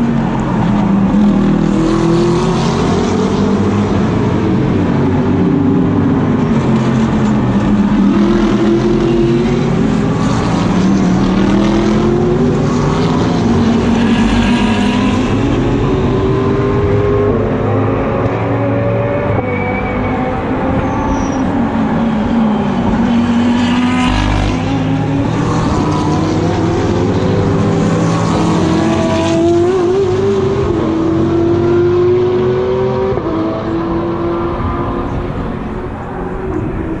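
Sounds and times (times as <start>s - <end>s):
racing car engines: 0.0s - 37.0s.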